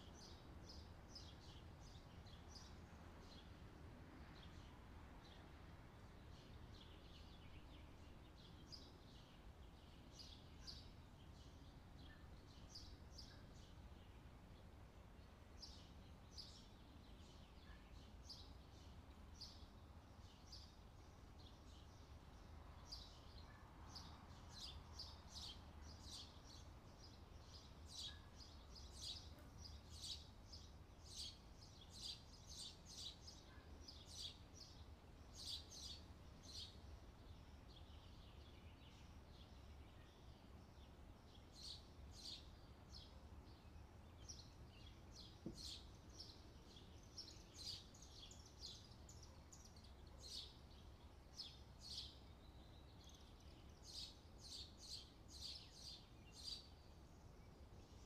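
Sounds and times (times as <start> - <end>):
faint small birds chirping: 0.0 - 58.0.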